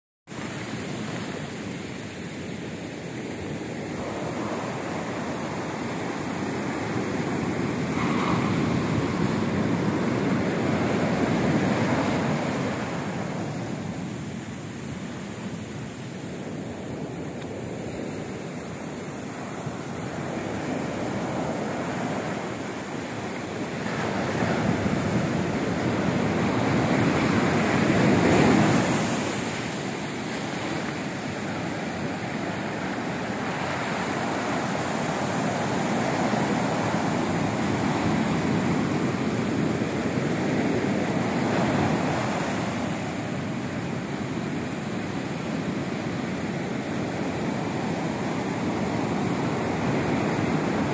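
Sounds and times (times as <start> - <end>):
ocean waves breaking: 0.3 - 50.9.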